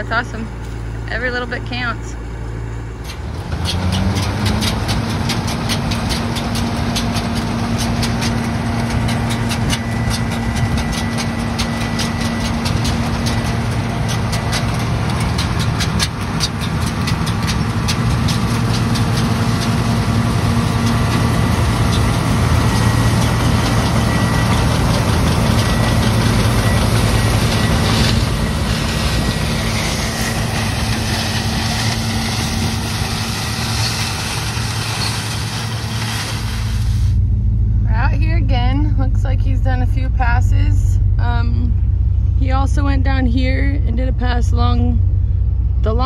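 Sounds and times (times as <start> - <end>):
harvester machinery clatter: 0.0 - 37.3
diesel engine drone: 0.0 - 46.0.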